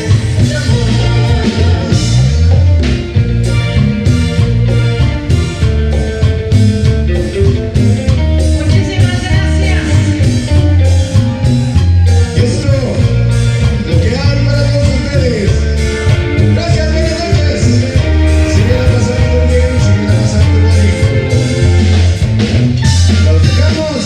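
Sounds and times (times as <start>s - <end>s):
band playing romantic ballad: 0.0s - 24.0s.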